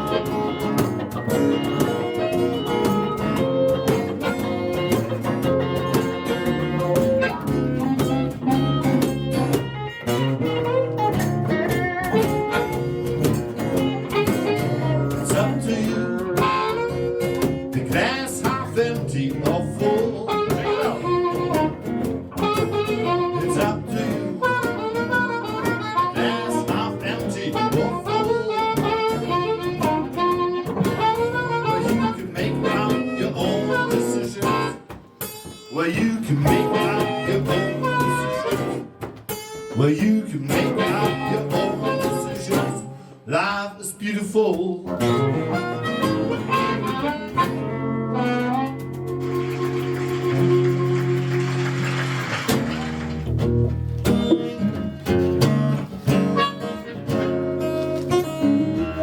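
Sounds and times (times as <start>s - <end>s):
harmonica wailing: 0.0s - 39.9s, 40.5s - 43.2s, 45.0s - 53.5s, 55.9s - 59.0s
strummed acoustic guitar: 0.0s - 59.0s.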